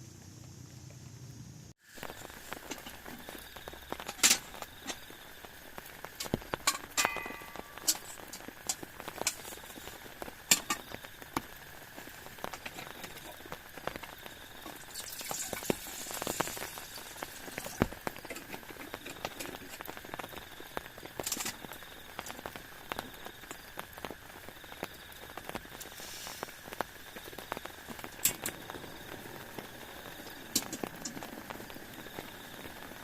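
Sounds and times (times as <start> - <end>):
faint hiss: 0.0 - 33.0
rain pattering and dripping: 0.0 - 33.0.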